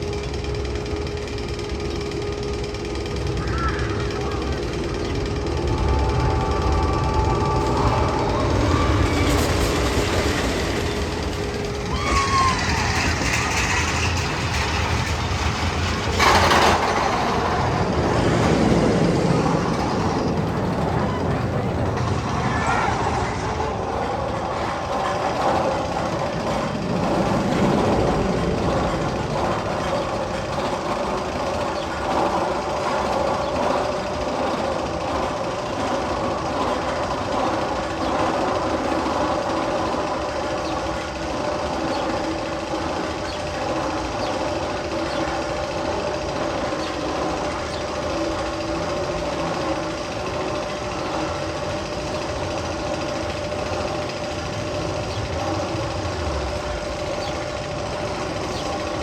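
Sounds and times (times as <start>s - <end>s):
constant hum: 0.0s - 59.0s
steady mechanical rumble: 0.0s - 59.0s.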